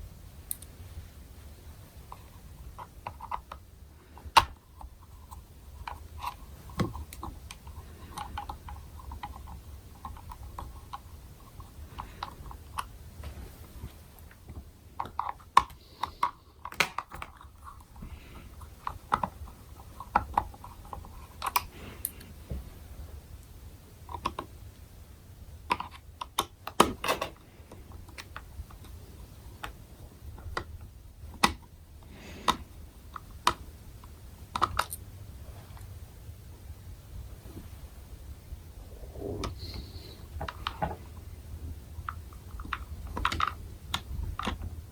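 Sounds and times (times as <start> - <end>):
plastic helmet parts clicking: 2.0 - 22.4, 23.4 - 24.9, 25.6 - 35.0, 39.4 - 41.3, 42.0 - 44.9.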